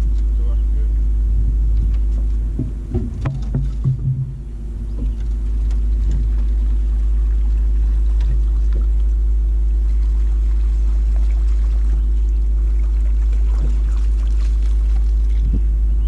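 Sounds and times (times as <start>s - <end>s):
boat motor running: 0.0s - 16.0s
wind rumble on microphone: 0.0s - 16.0s.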